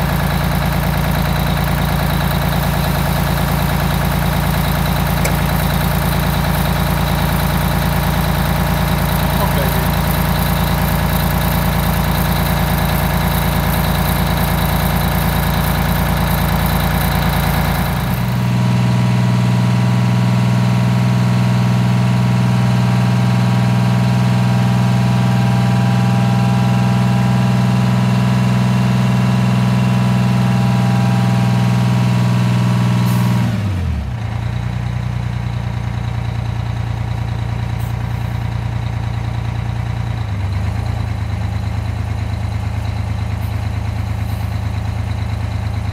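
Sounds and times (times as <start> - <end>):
diesel bus engine idling: 0.0 - 45.9.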